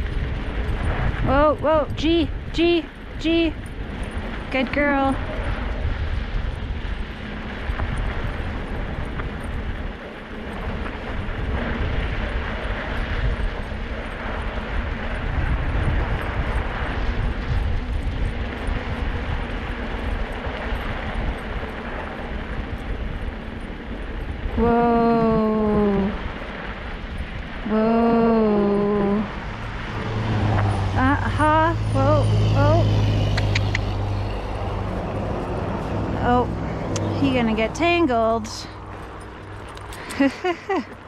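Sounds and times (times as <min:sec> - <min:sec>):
tyres rolling on snow: 0:00.0 - 0:01.7, 0:02.3 - 0:41.0.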